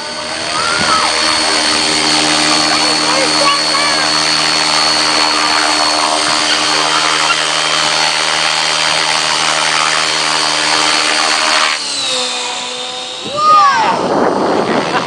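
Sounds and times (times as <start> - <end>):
high-pitched whine: 0.0 - 15.0
rc helicopter rotor and motor: 0.0 - 15.0.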